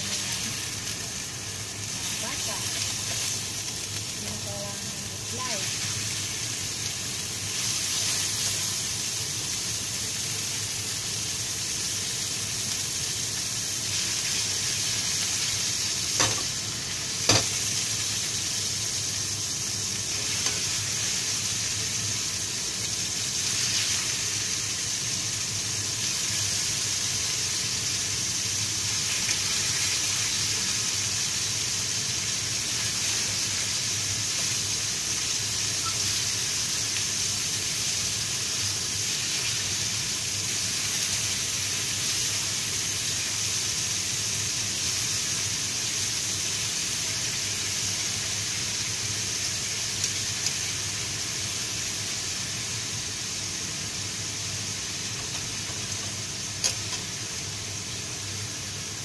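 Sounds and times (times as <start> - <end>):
meat sizzling in frying pan: 0.0 - 59.0.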